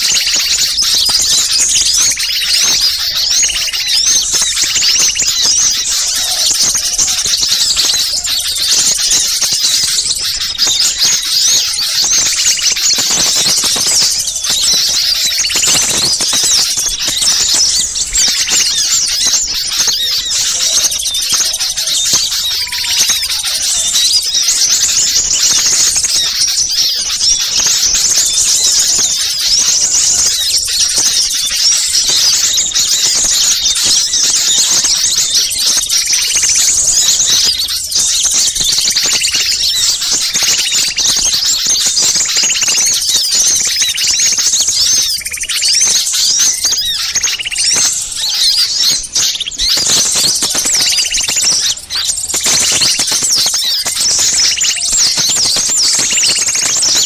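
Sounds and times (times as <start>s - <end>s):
flock of small birds chirping: 0.0s - 57.0s.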